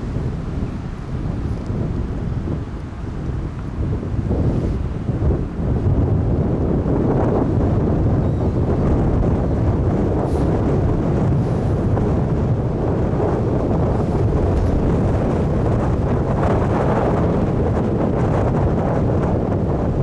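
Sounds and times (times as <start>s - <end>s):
storm wind on microphone: 0.0s - 20.0s.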